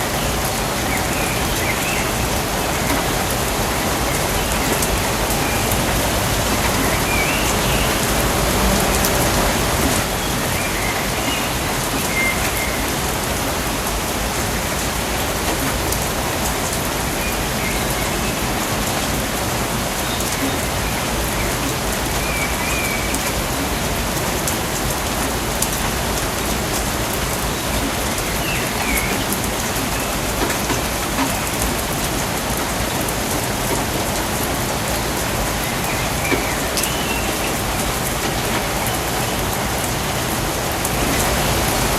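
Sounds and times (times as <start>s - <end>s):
steady heavy rain: 0.0s - 41.9s.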